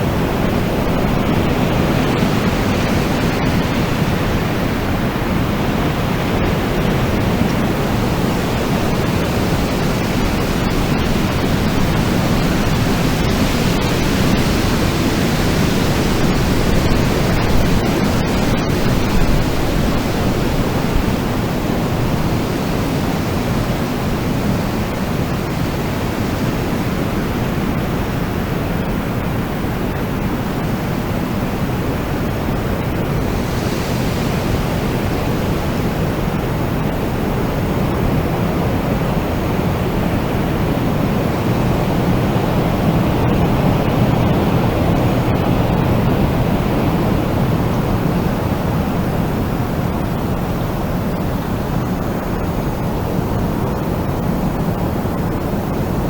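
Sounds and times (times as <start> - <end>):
wind gust: 0.0 - 29.9, 30.6 - 56.0
wind blowing: 0.0 - 56.0.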